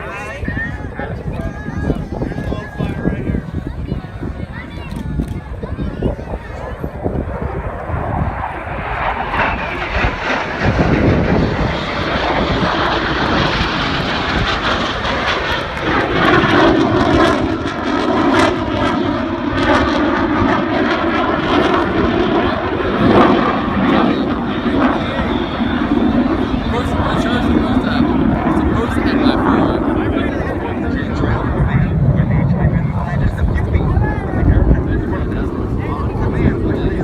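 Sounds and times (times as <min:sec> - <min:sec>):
fighter jets flying past: 0:00.0 - 0:37.0.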